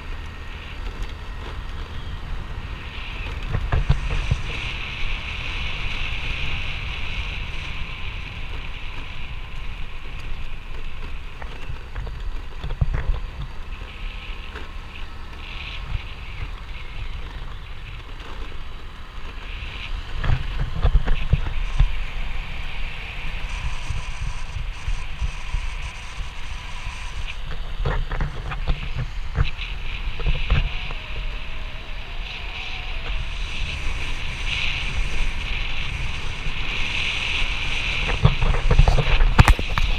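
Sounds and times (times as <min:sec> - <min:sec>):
scooter engine and tyre noise: 0:00.0 - 0:39.9
wind rushing over microphone: 0:00.0 - 0:39.9.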